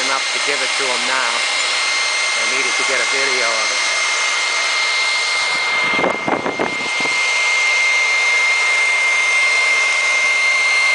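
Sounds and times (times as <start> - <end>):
blower whining: 0.0 - 10.9.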